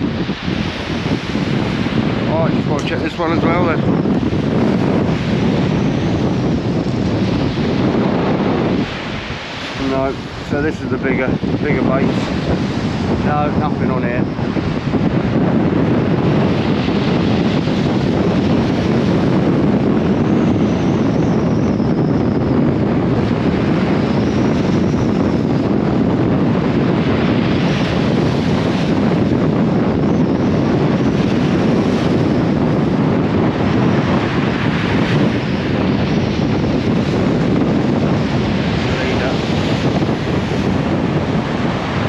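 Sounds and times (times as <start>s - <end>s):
surf on shingle beach: 0.0s - 21.1s, 22.6s - 29.8s, 30.4s - 42.0s
wind buffeting microphone: 0.0s - 42.0s.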